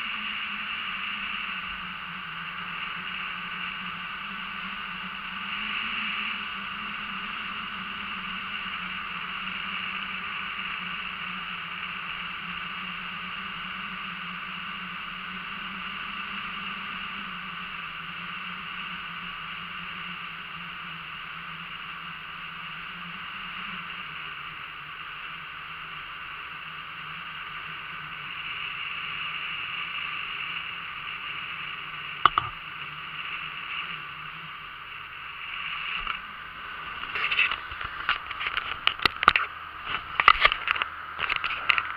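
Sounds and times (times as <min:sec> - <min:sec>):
motorboat engine hum: 0:00.0 - 0:41.9
wind: 0:00.0 - 0:41.9.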